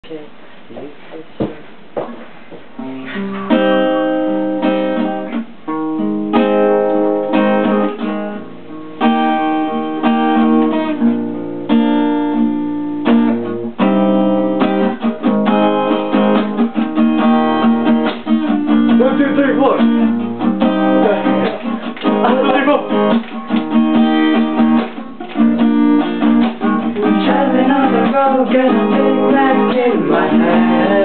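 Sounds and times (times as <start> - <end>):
acoustic guitar strumming chords: 2.8 - 31.0.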